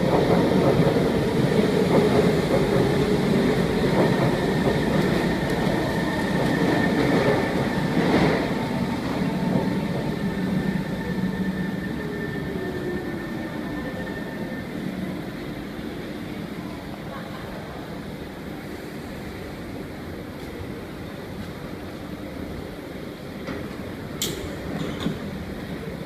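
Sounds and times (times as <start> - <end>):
metro train rumble and motor whine: 0.0 - 26.0.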